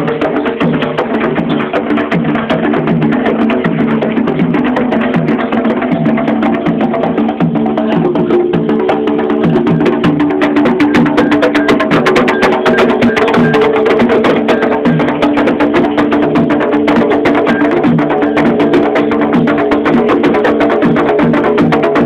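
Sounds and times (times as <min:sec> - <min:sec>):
fast drum strokes: 0:00.0 - 0:22.0.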